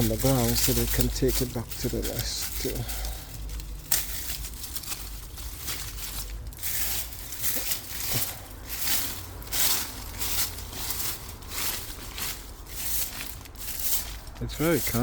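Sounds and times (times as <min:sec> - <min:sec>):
leaves rustling and crinkling: 0:00.0 - 0:15.0.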